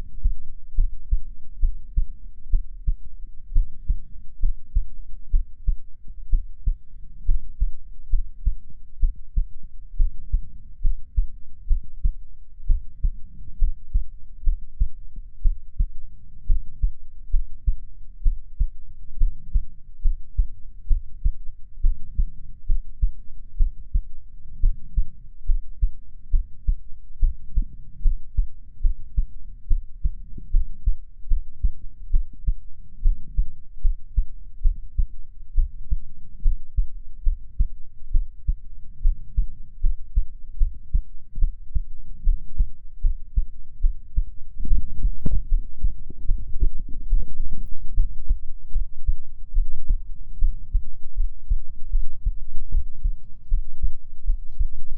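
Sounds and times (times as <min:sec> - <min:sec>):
heartbeat thumps: 0:00.0 - 0:54.9
low rumble: 0:00.0 - 0:54.9.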